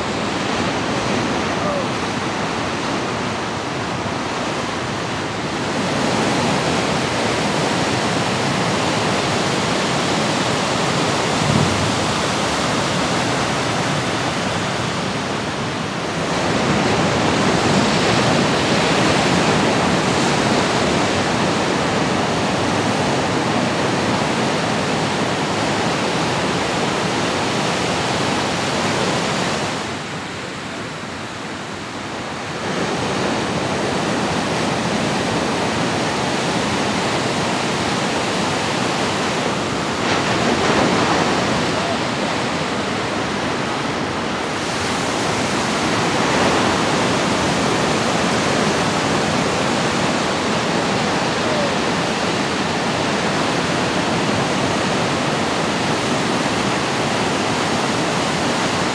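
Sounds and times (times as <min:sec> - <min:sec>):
ocean waves breaking ashore: 0:00.0 - 0:58.9.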